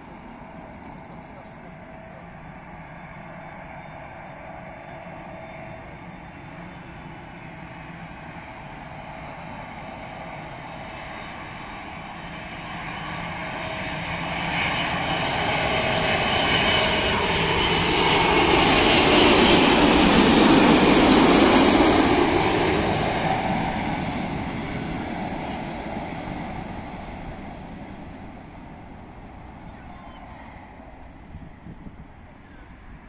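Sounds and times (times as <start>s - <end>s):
jet plane flying overhead: 0.0s - 33.0s.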